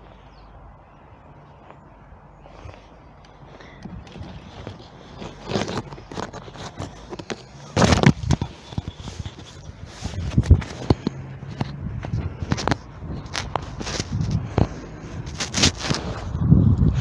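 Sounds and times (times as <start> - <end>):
scuffs and clicks on microphone: 1.4 - 17.0.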